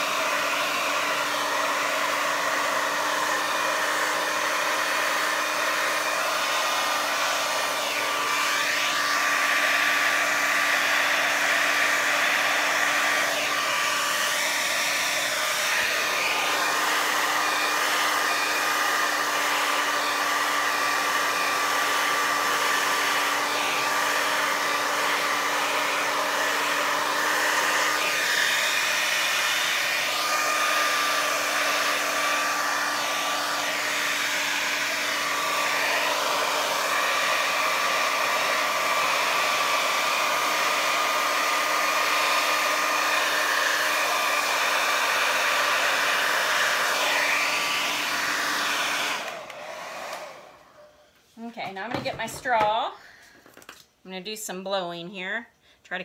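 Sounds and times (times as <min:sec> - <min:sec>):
hair dryer running: 0:00.0 - 0:55.2.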